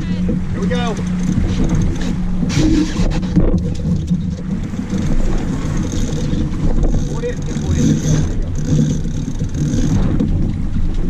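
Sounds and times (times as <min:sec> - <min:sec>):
rigging clattering: 0:00.0 - 0:11.0
steady low hum: 0:00.0 - 0:11.0
water noise: 0:00.0 - 0:11.0
wind: 0:00.0 - 0:11.0.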